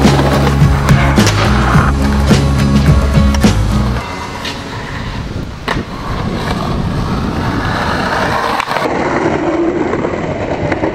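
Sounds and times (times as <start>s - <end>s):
skateboard clack: 0.0s - 10.9s
skateboard wheels rolling on concrete: 0.0s - 10.9s.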